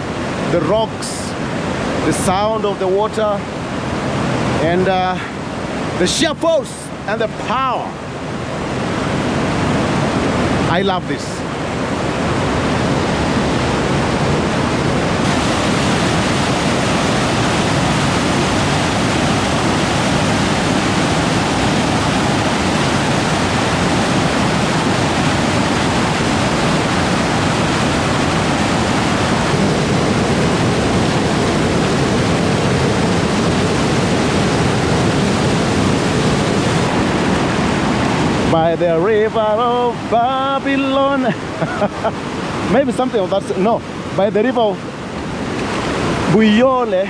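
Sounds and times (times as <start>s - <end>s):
waterfall rushing over rocks: 0.0s - 47.0s.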